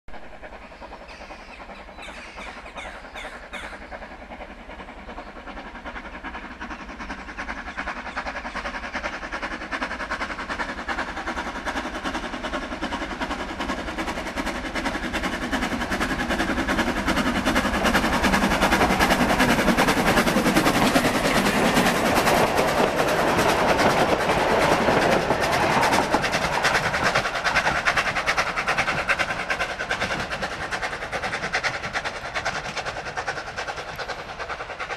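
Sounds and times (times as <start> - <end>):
steam locomotive exhaust beat: 0.1 - 34.9
train wheels clattering on rails: 0.1 - 34.9.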